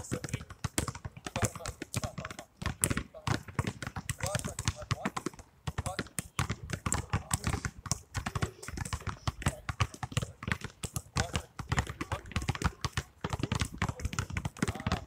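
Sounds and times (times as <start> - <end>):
basketballs bouncing on asphalt: 0.0 - 15.0.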